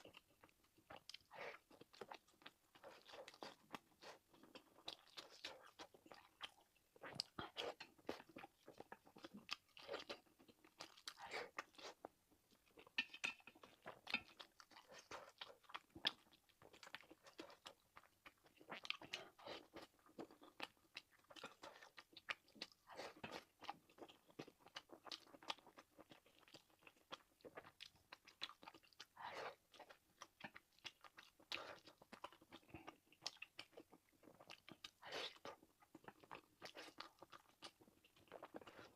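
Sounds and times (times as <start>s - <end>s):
close chewing crunches: 0.0s - 38.9s.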